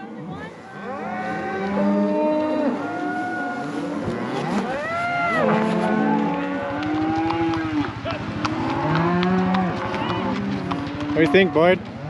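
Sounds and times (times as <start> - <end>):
cattle mooing: 0.0 - 11.8.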